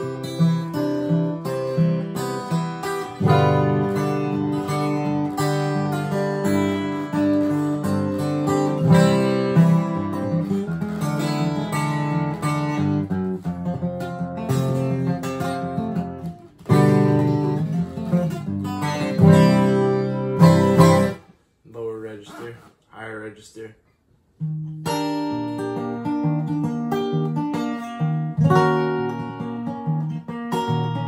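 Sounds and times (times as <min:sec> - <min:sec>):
fingerstyle acoustic guitar: 0:00.0 - 0:21.3, 0:24.3 - 0:31.0.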